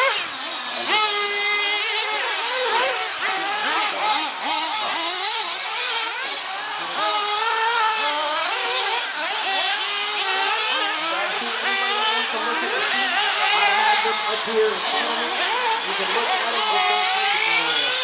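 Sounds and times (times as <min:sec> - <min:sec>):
rc car motors revving: 0:00.0 - 0:18.0.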